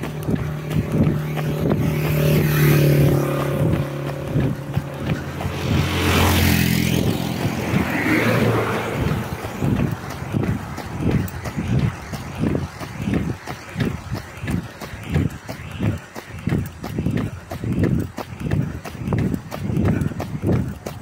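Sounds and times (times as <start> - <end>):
runner's footfalls on asphalt: 0.0 - 21.0
vehicle passing by: 0.0 - 21.0.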